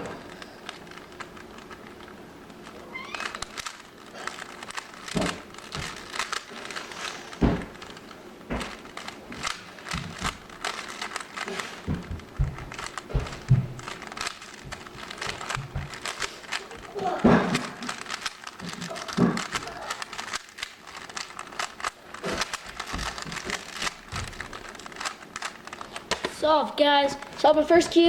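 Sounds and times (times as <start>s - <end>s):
speed cube clicking: 0.3s - 26.4s.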